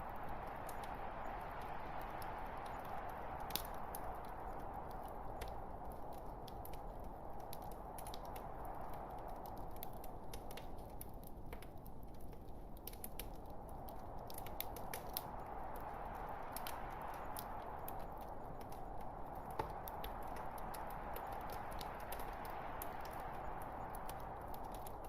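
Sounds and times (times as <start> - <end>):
log fire burning: 0.0 - 25.0.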